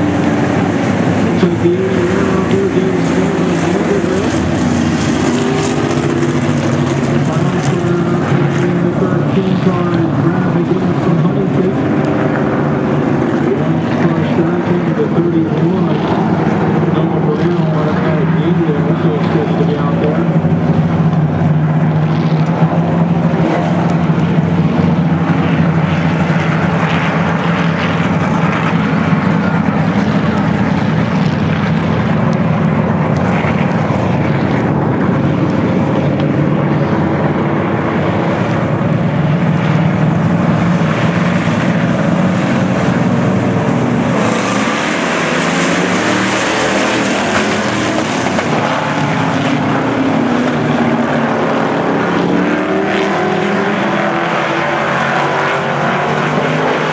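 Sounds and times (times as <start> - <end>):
race car engines droning: 0.0 - 56.9.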